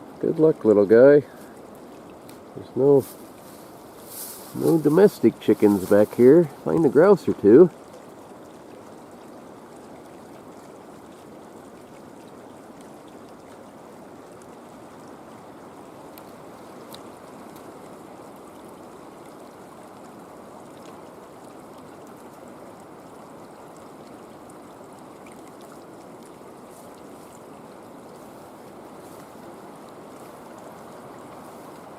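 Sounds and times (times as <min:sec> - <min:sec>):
creek water flowing: 0:00.0 - 0:31.9.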